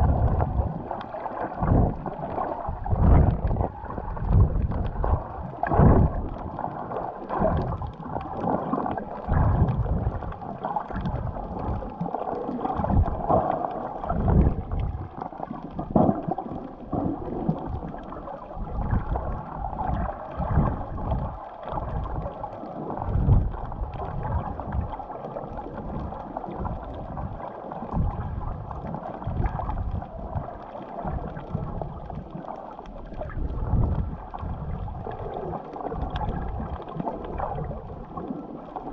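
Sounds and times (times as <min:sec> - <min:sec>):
muffled underwater water swishing: 0:00.0 - 0:38.9.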